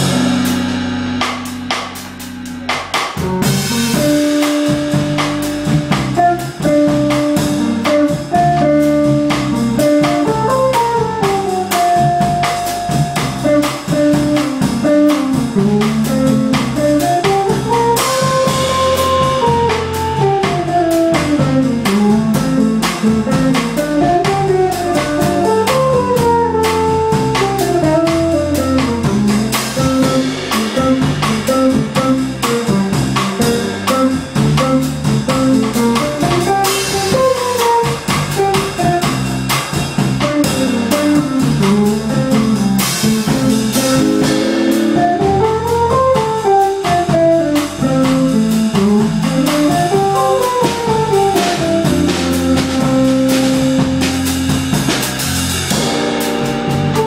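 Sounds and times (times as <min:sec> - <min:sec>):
electric bass walking line: 0:00.0 - 0:57.0
light cymbal and drums: 0:00.0 - 0:57.0
electric guitar melody: 0:02.0 - 0:39.1, 0:39.8 - 0:54.1, 0:55.6 - 0:57.0.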